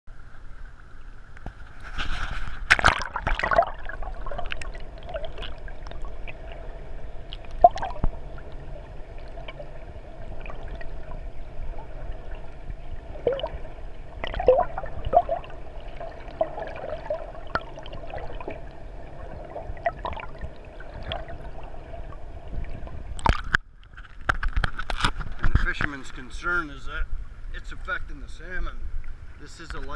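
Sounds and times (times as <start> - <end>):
steady hum: 0.1 - 24.7
muffled water gurgling and sloshing: 0.1 - 29.9
water splashing: 0.9 - 26.5.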